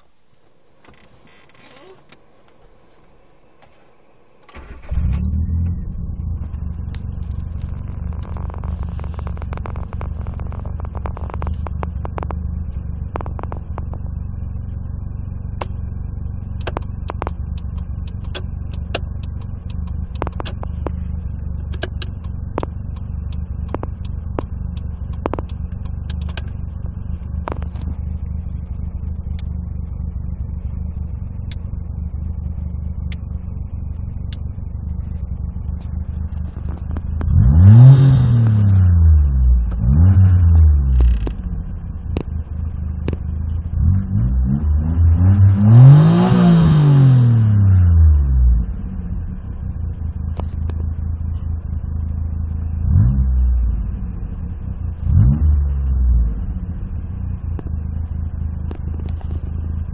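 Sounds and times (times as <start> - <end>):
small car engine idling and revving: 0.0 - 59.9.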